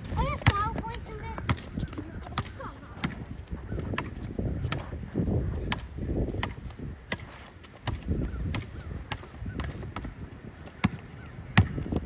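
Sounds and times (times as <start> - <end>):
basketball bouncing on hard court: 0.0 - 4.9, 5.7 - 12.0.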